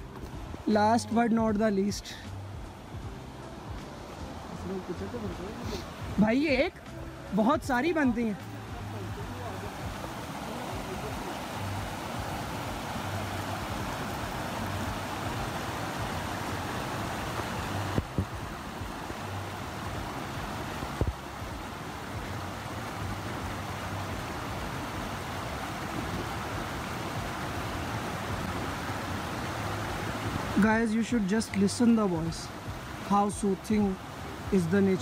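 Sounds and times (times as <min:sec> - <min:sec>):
waterfall rushing into a pool: 0:02.6 - 0:35.0.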